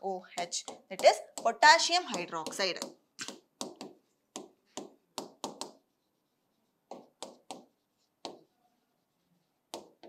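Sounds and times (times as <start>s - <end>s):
marker pen on whiteboard: 0.0s - 10.0s.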